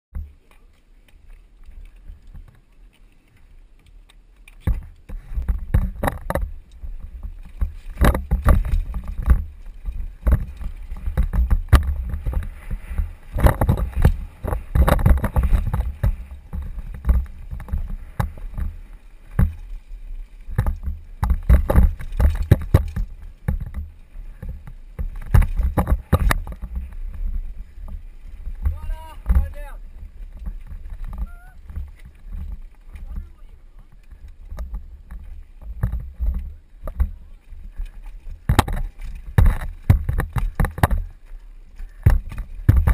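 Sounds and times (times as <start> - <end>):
bike knocking and rattling on rocks: 0.1 - 42.9
mountain bike low rumble: 0.1 - 42.9.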